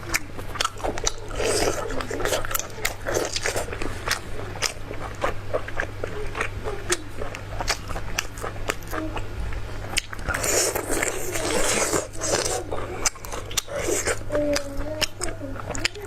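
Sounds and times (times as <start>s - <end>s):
chewing and biting food: 0.0s - 16.0s.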